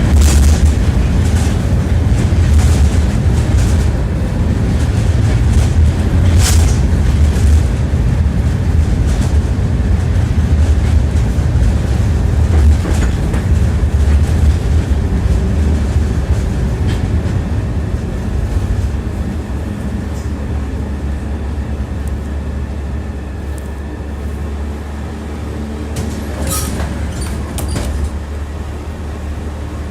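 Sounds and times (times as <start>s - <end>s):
tram rumble: 0.0s - 29.9s.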